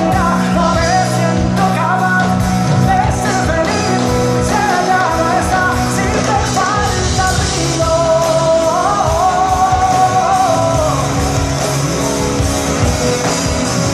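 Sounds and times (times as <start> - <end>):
live pop-rock band: 0.0 - 13.9
person singing: 0.0 - 13.9.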